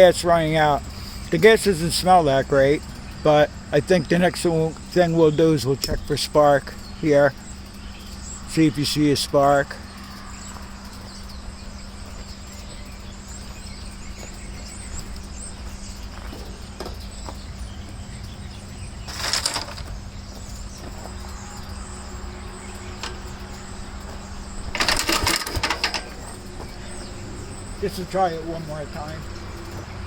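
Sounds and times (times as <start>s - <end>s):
engine being cranked by hand: 0.0s - 30.0s.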